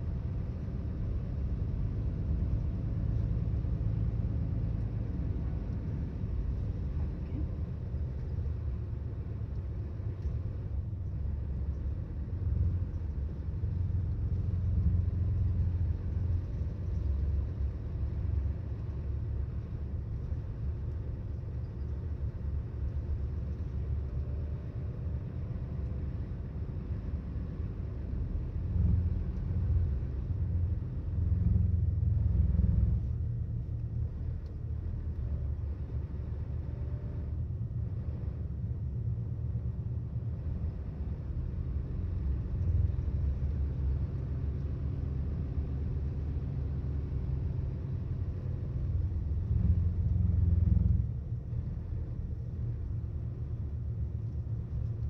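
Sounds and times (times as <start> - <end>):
bus diesel engine rumble: 0.0 - 55.0.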